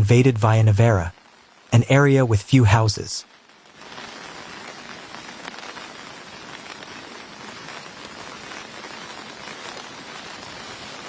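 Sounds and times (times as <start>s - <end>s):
heavy rain on hard surfaces: 0.0s - 11.0s.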